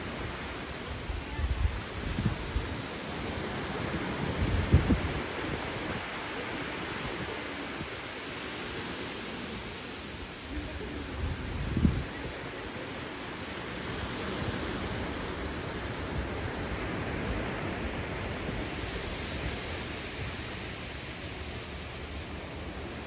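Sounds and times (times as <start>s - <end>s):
ocean waves washing up beach: 0.0s - 23.0s.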